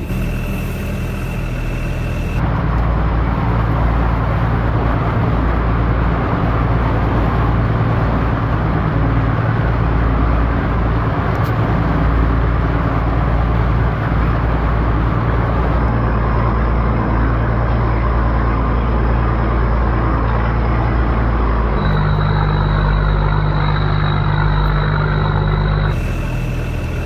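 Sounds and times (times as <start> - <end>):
boat engine drone: 0.0 - 27.0
steady rushing noise: 0.0 - 27.0.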